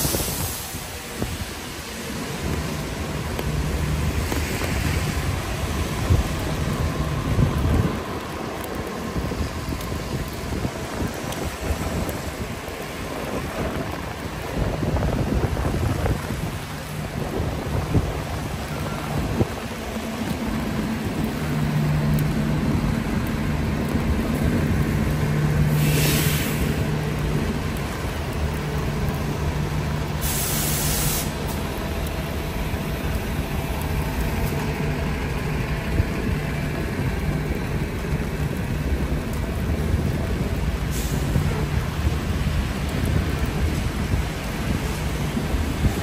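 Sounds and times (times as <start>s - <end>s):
rain falling on umbrella: 0.0s - 46.0s.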